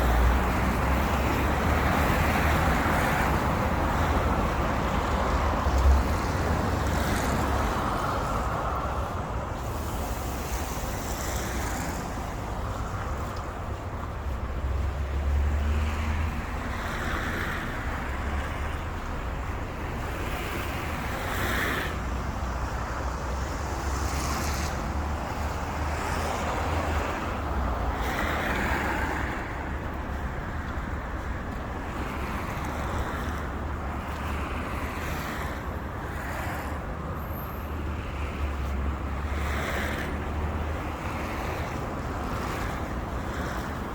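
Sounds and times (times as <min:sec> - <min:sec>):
cars passing: 0:00.0 - 0:43.9.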